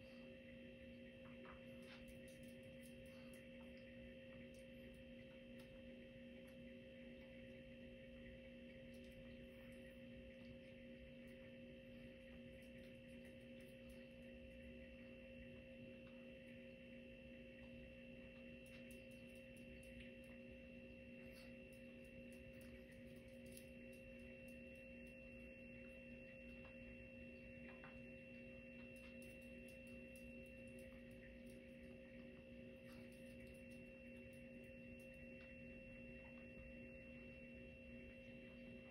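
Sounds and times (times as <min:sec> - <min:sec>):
faint hum of held tones: 0:00.0 - 0:38.9.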